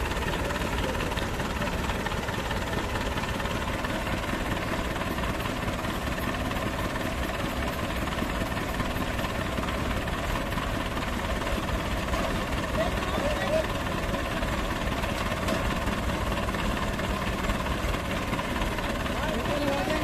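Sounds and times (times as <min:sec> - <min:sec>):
diesel tractor engines running: 0:00.0 - 0:20.0.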